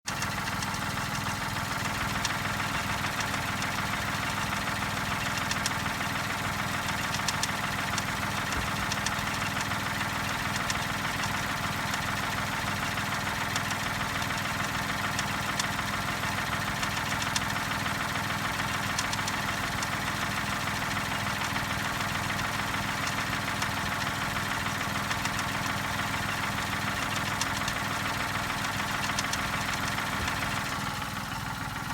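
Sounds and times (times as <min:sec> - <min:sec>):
car engine idling: 0:00.1 - 0:31.9
faint irregular engine clicks: 0:00.1 - 0:31.9.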